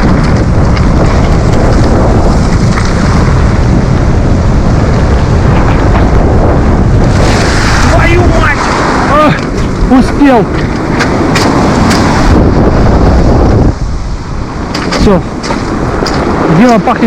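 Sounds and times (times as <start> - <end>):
waves breaking on stony shore: 0.0 - 17.0
wind buffeting microphone: 0.0 - 17.0.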